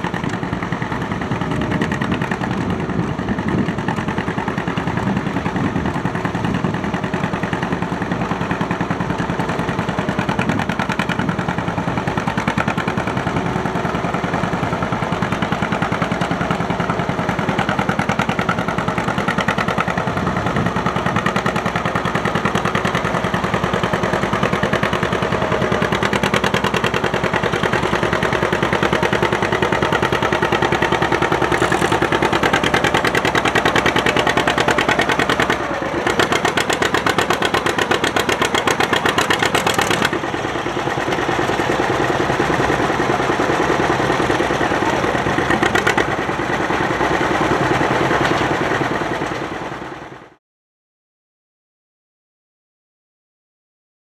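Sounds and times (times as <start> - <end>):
tractor engine running: 0.0 - 50.4.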